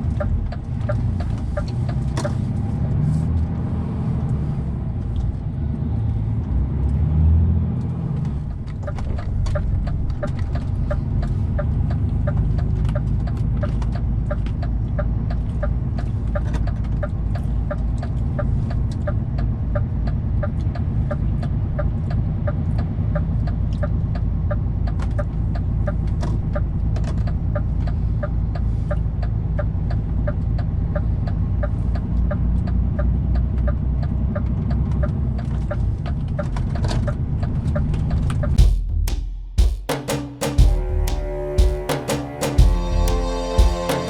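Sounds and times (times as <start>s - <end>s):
road noise: 0.0s - 38.7s, 40.3s - 44.0s
truck engine rumble: 0.0s - 38.9s, 40.6s - 44.0s.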